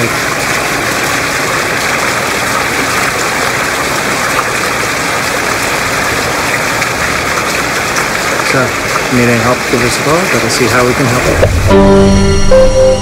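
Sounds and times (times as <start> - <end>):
waterfall splashing: 0.0 - 12.8.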